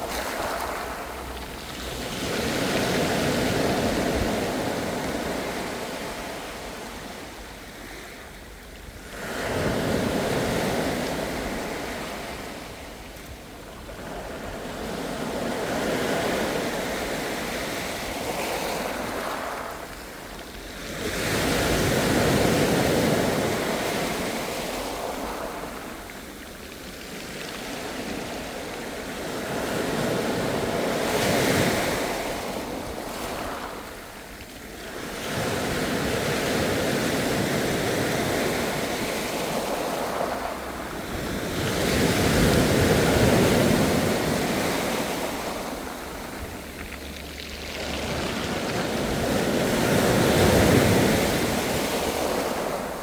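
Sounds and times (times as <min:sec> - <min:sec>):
ocean waves breaking: 0:00.0 - 0:08.2, 0:13.9 - 0:53.0.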